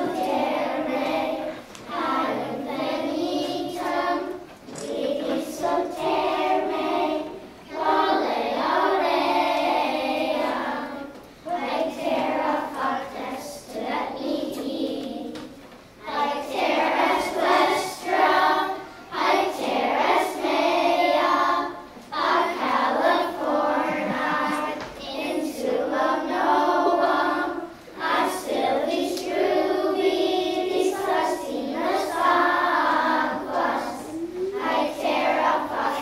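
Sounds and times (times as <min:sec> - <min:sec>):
children's choir singing: 0:00.0 - 0:36.0.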